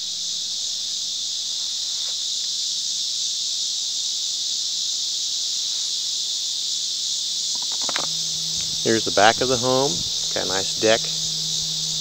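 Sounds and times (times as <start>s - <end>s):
insects shrill drone: 0.0s - 12.0s.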